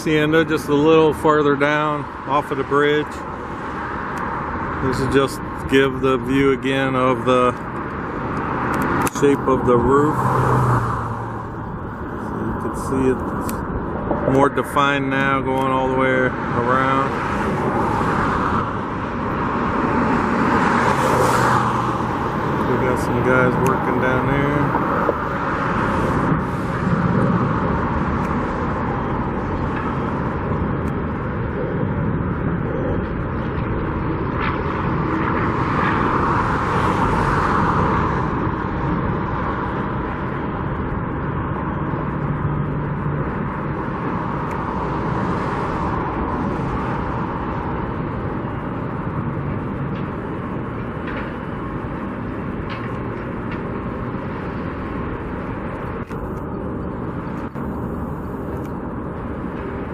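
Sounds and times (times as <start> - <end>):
road traffic noise: 0.0 - 59.9
vehicles passing: 0.0 - 59.9.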